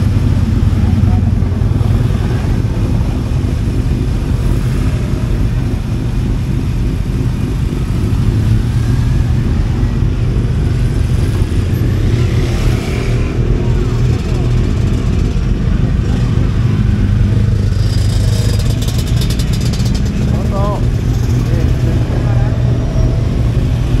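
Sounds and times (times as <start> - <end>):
motorcycle idling: 0.0 - 24.0.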